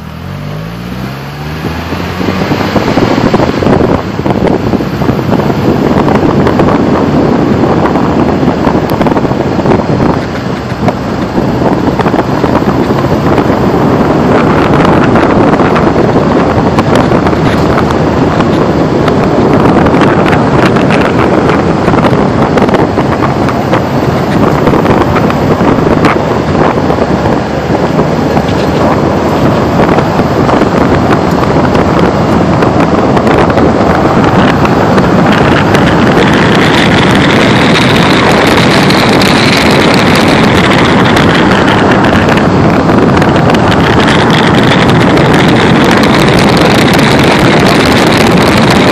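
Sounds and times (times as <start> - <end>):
car road and engine noise: 0.0 - 48.9
wind rushing over microphone: 0.0 - 48.9.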